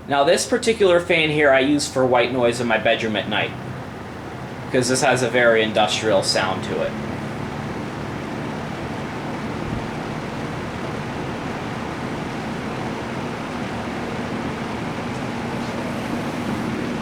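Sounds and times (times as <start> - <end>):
faint motor hum: 0.0 - 17.0
fan air rushing: 0.0 - 17.0.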